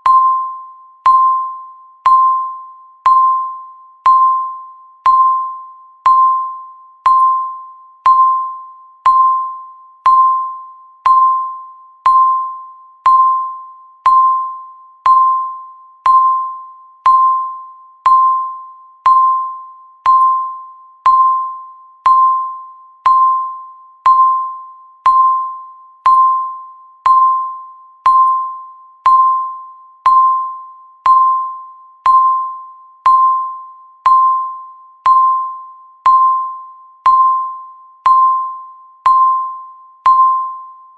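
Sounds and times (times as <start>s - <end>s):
timer beeping: 0.0s - 40.9s.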